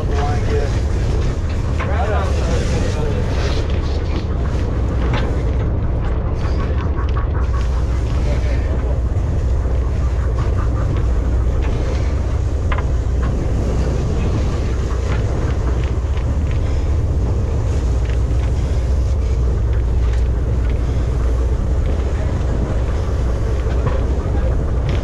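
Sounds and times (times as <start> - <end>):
boat engine: 0.0 - 25.0
wind buffeting microphone: 0.0 - 25.0.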